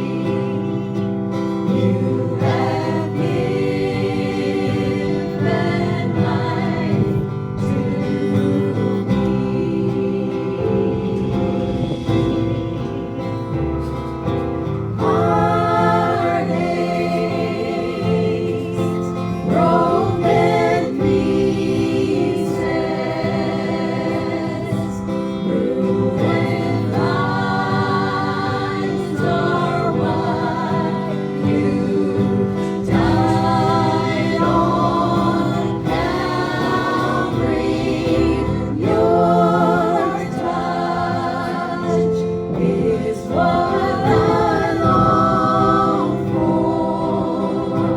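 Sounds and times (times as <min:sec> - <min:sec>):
group singing gospel: 0:00.0 - 0:47.9
instrumental backing: 0:00.0 - 0:47.9.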